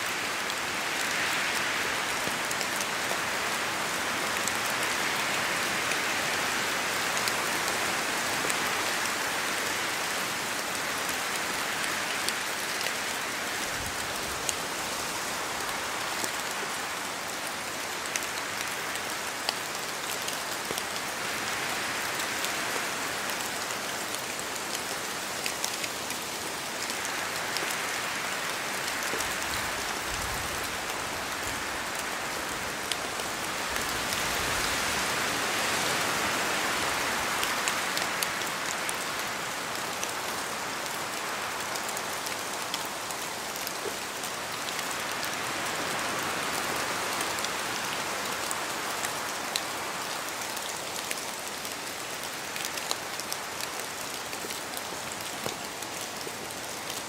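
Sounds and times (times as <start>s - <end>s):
low gusts of wind: 0.0s - 57.0s
rain pattering on leaves: 0.0s - 57.0s.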